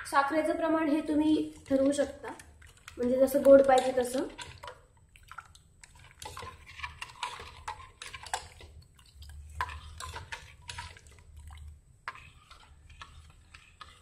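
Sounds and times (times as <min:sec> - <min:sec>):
ladle stirring in steel pan: 0:00.9 - 0:14.0.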